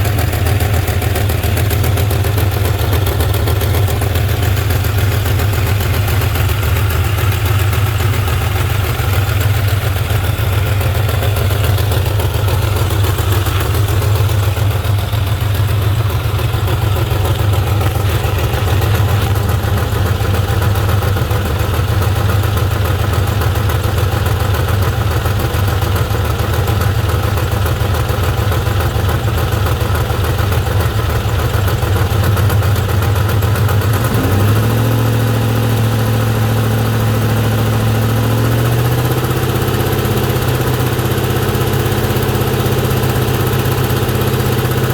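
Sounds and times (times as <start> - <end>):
car engine idling with ticking: 0.0 - 44.9.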